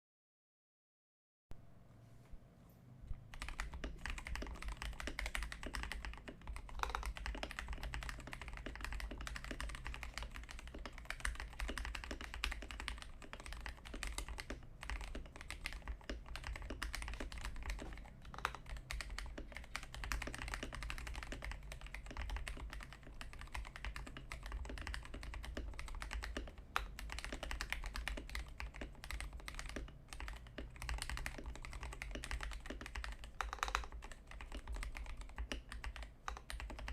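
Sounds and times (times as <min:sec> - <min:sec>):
fast typing on mechanical keyboard: 0:03.2 - 0:36.9.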